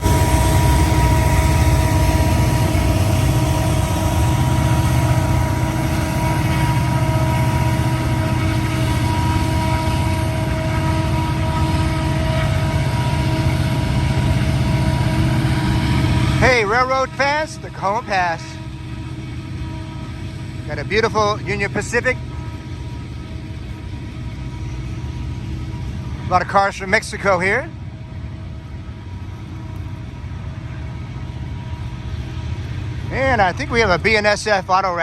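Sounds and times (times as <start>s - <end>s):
heavy engine droning: 0.0s - 35.0s.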